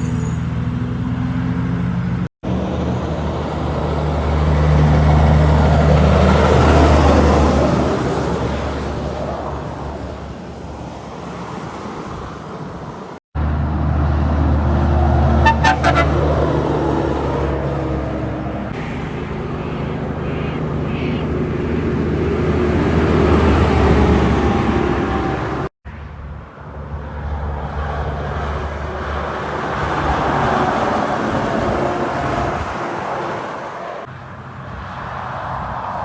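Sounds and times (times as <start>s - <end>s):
heavy trucks driving past: 0.0s - 36.0s.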